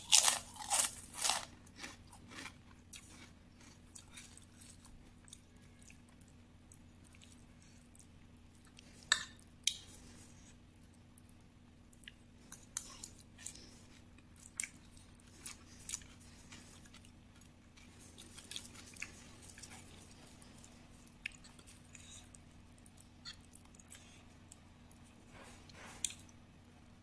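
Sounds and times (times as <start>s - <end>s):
person chewing crackers: 0.0s - 9.0s, 11.2s - 25.0s
faint steady hum: 0.0s - 27.0s.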